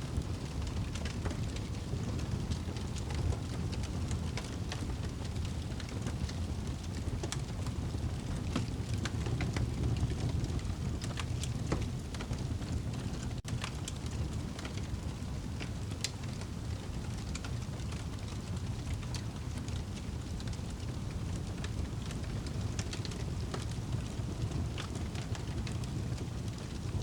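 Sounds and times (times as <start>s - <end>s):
fire flames rumbling: 0.0s - 27.0s
logs crackling and popping: 0.1s - 27.0s.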